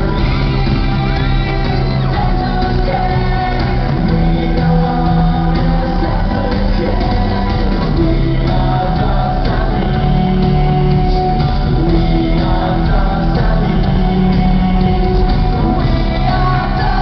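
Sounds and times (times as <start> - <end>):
drums: 0.0 - 17.0
electric guitars: 0.0 - 17.0
singing: 0.0 - 17.0.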